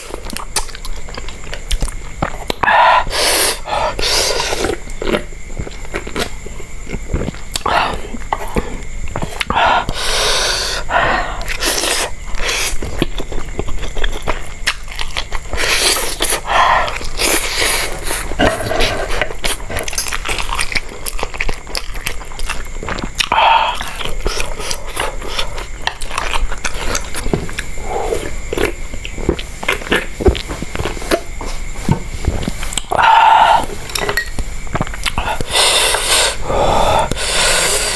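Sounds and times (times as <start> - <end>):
wet chewing: 0.0 - 37.9.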